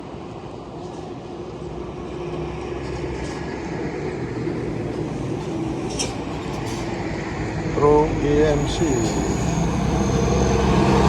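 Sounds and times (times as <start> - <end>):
heavy vehicle engine hum: 0.1 - 11.0.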